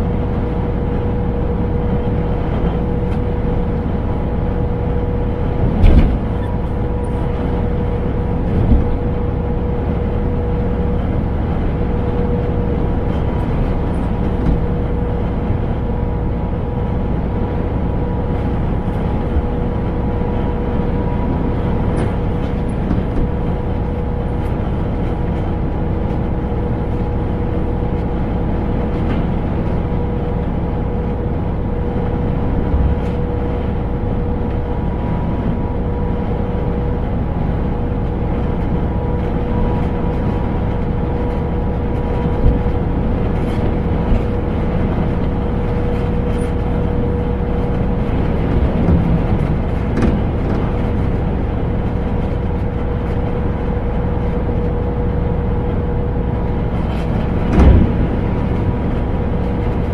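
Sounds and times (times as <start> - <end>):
road rumble: 0.0 - 59.9
truck engine drone: 0.0 - 59.9.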